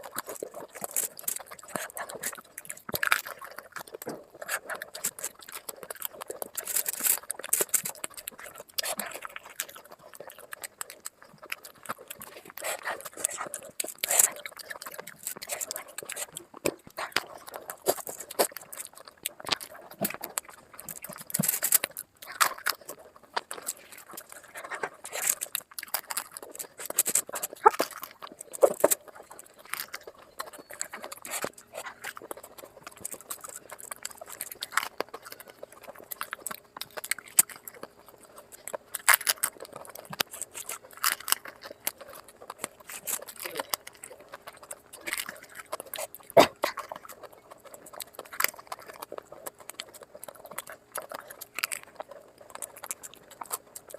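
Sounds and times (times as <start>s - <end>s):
crunching and chewing food: 0.0s - 53.9s.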